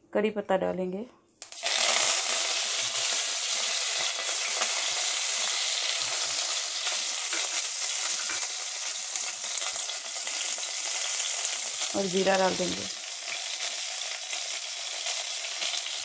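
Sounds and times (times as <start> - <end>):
leaves sizzling in hot oil: 1.4 - 16.0.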